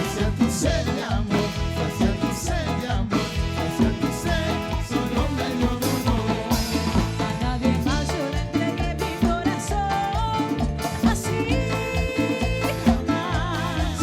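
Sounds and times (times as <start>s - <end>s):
live tropical band music: 0.0s - 14.0s.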